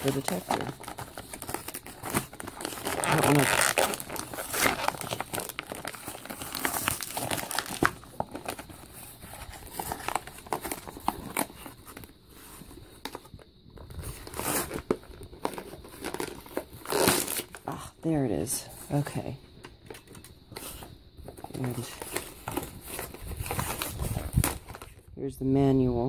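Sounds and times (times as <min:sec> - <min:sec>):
plastic packaging crinkling: 0:00.0 - 0:17.7, 0:19.8 - 0:25.1.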